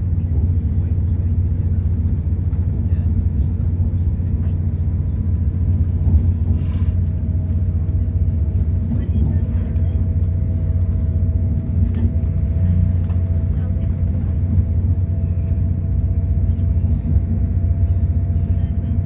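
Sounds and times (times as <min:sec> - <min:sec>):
passenger train rumbling: 0:00.0 - 0:19.0.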